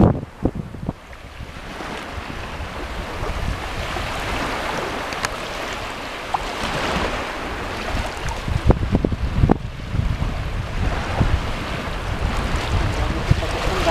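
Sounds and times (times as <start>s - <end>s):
water lapping in shallows: 0.0s - 13.9s
wind rumble on microphone: 0.0s - 13.9s.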